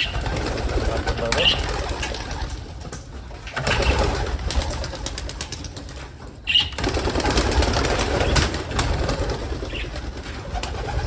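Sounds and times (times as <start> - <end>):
pigeon wings flapping: 0.0 - 11.0
pigeons cooing: 0.0 - 11.0.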